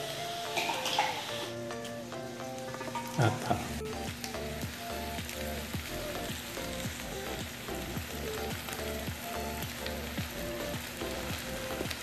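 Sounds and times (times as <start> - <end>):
background music with beat: 0.0 - 12.0
food sizzling in frying pan: 0.0 - 12.0.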